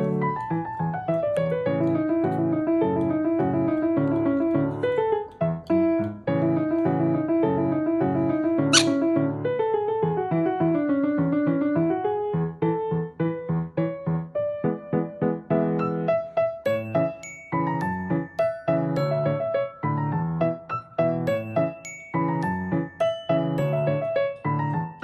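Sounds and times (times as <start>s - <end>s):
bouncy piano music: 0.0s - 25.0s
keyboard melody: 0.0s - 25.0s.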